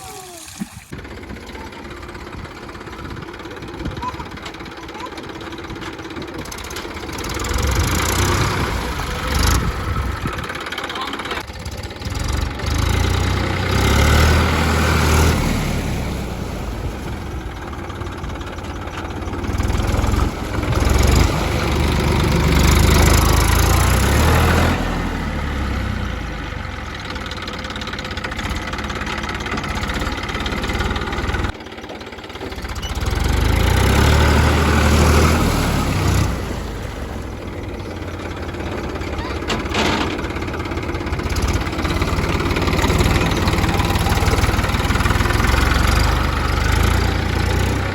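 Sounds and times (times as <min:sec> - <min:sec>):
mini tractor engine running: 0:00.0 - 0:47.9.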